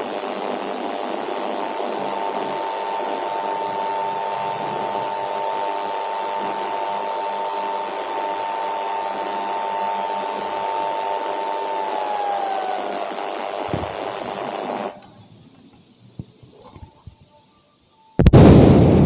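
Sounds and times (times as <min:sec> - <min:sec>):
constant hiss: 0:00.0 - 0:19.0.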